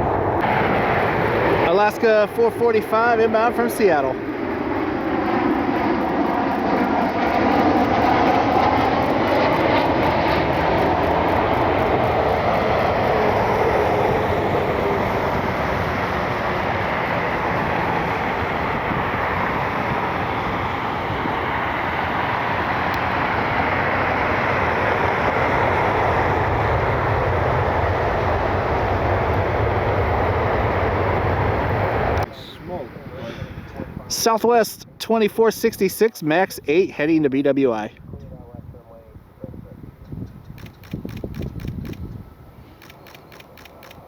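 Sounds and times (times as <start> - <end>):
jet engines running: 0.0 - 37.9, 39.1 - 44.0.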